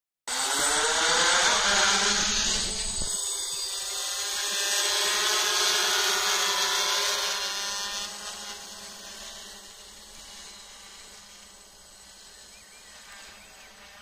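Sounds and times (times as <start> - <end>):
drone propellers buzzing: 0.3 - 14.0.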